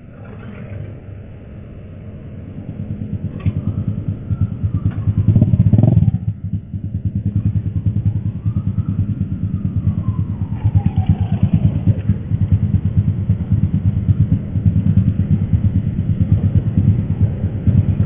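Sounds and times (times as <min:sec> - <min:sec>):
motorcycle engine and wind rumble: 0:00.0 - 0:18.0.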